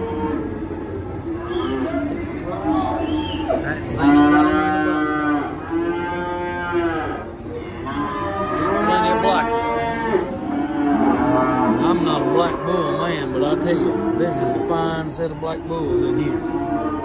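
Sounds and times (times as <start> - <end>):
calves bawling: 0.0 - 15.1.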